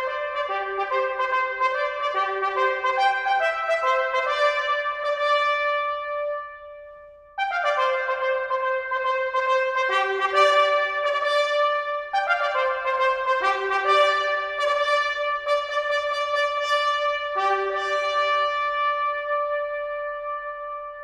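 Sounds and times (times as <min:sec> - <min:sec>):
trumpets playing in harmony: 0:00.0 - 0:21.0.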